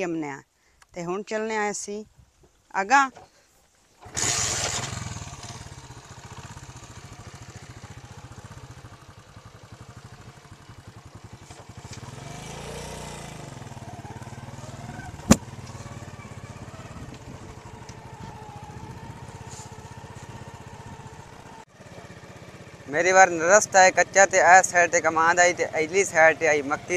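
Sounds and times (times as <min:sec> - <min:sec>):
motorcycle engine puttering: 0:03.2 - 0:26.9.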